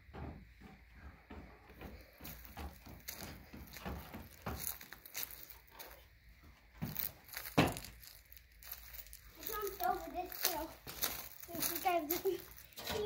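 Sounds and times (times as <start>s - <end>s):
footsteps and scuffs on concrete: 0.2s - 13.0s.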